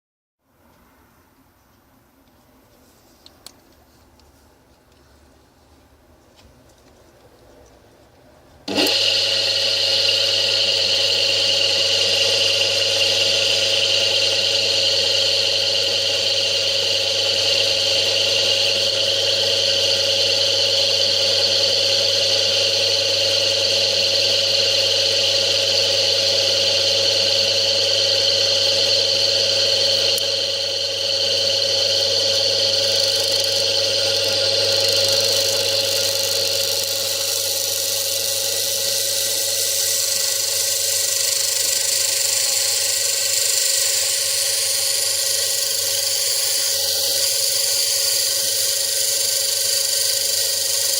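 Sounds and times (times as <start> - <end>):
electric motor whining: 8.7 - 50.9.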